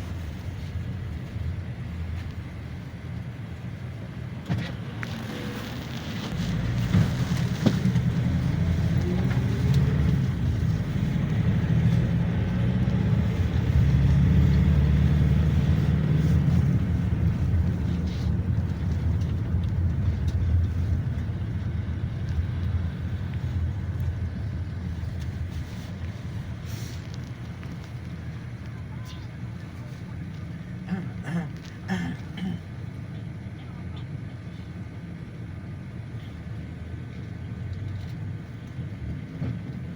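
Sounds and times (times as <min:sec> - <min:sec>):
minibus engine and road noise: 0:00.0 - 0:39.9.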